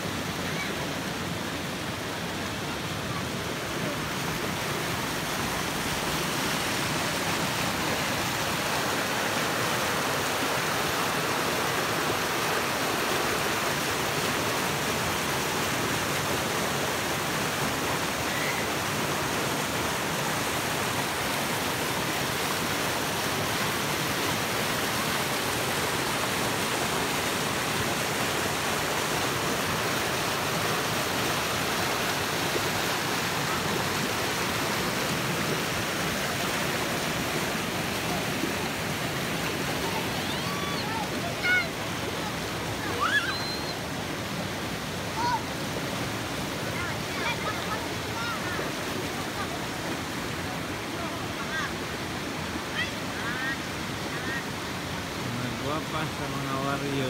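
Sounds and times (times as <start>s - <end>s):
mountain stream rushing over rocks: 0.0s - 57.0s.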